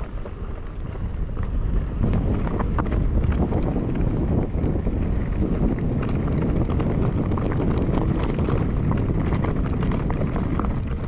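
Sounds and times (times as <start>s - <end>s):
bike rattling and knocking: 0.0s - 11.0s
low rumble: 0.0s - 11.0s
wind buffeting microphone: 0.0s - 11.0s.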